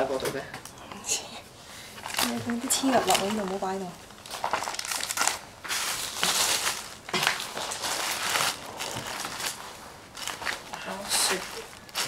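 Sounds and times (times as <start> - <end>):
bags rustling and crinkling: 1.8 - 12.0.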